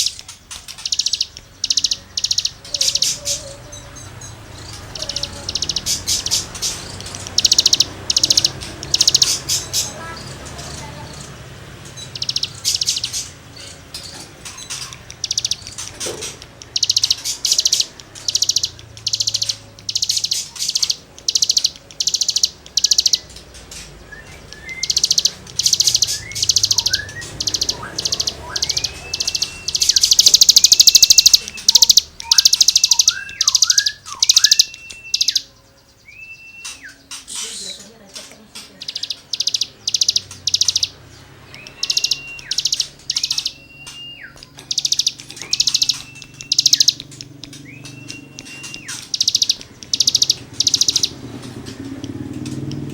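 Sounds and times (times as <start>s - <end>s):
whistled bird notes: 0.0s - 11.2s, 12.0s - 37.9s, 38.8s - 51.9s.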